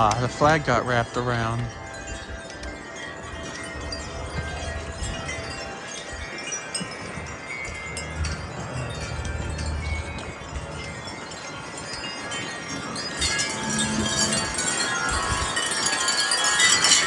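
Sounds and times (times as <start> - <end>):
strong gusty wind: 0.0 - 17.0
wind chimes ringing: 0.0 - 17.0.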